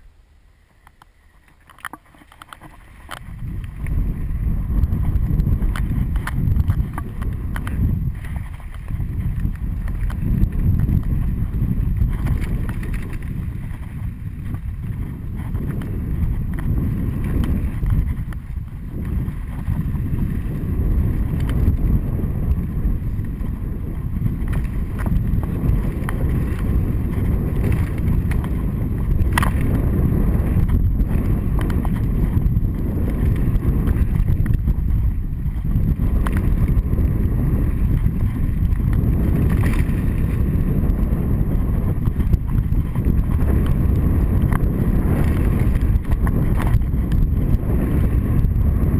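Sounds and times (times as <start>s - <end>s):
bike rattling: 0.0s - 48.9s
wind buffeting microphone: 0.7s - 48.9s.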